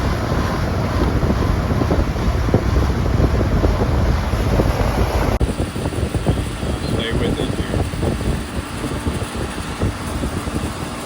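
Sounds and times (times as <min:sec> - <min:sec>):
air blowing on microphone: 0:00.0 - 0:11.0.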